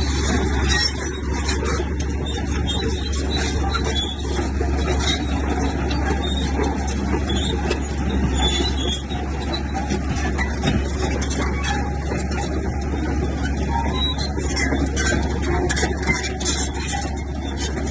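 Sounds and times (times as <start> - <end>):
bulldozer diesel engine running: 0.0 - 17.9.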